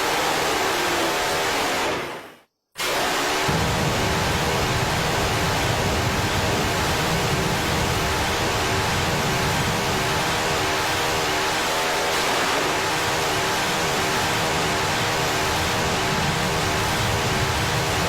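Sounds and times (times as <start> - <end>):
electric fan running: 3.4 - 18.0.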